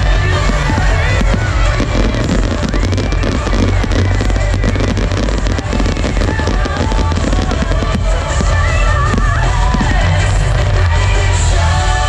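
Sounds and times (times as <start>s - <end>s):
fireworks crackling and popping: 0.0s - 12.0s
show music with heavy bass: 0.0s - 12.0s.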